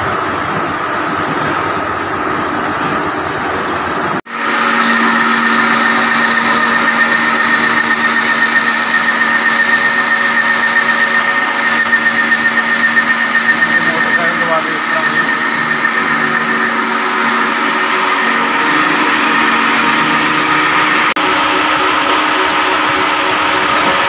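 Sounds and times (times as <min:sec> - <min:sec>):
rough workshop machine noise: 0:00.0 - 0:24.0
lathe whining: 0:04.3 - 0:24.0.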